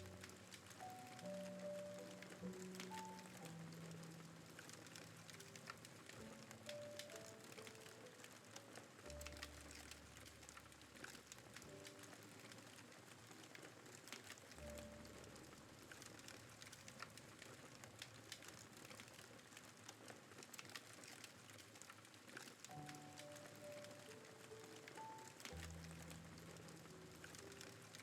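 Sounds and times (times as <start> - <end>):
soft background music: 0.0 - 19.2, 22.1 - 28.0
campfire crackling: 0.0 - 28.0.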